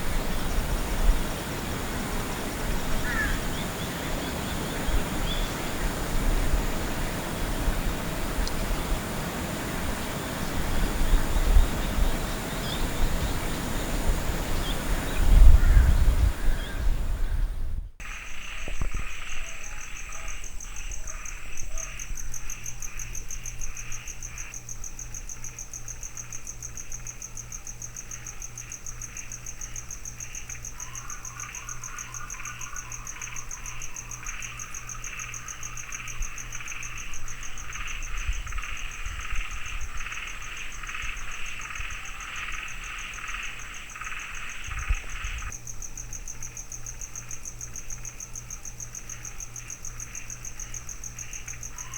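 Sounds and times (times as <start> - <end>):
high pulsing insect trill: 0.0 - 17.3, 18.0 - 51.9
low pulsing insect chorus: 0.0 - 51.9.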